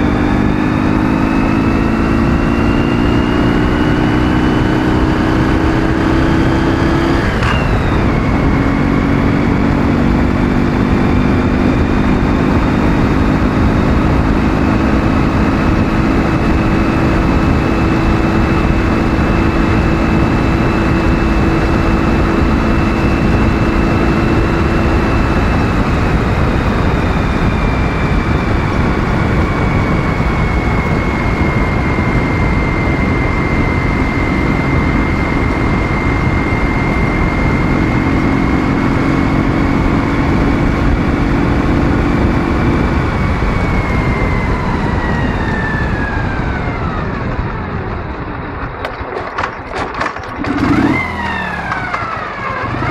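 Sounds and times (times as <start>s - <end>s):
motorcycle engine running: 0.0s - 52.9s
road rush: 0.0s - 52.9s
wind noise: 0.0s - 52.9s.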